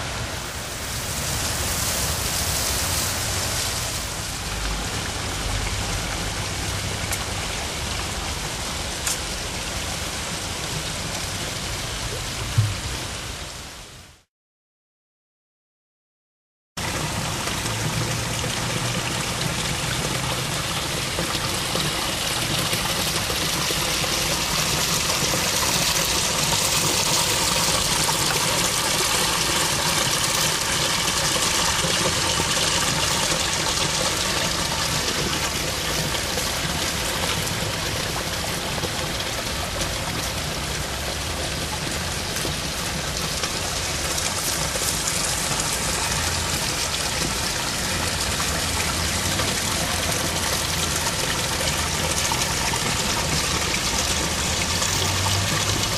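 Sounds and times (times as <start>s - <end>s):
water trickling over rocks: 0.0s - 12.8s, 16.8s - 55.9s.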